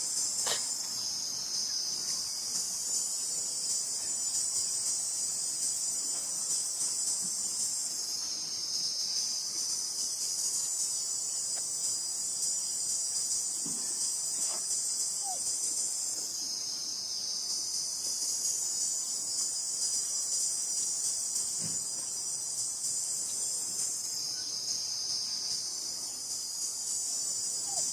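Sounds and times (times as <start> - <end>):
insects chirping chorus: 0.0 - 27.9.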